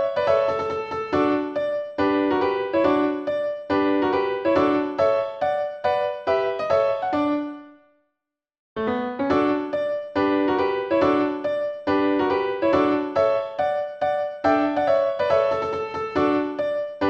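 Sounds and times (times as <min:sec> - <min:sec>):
keyboard music: 0:00.0 - 0:07.8, 0:08.8 - 0:17.0.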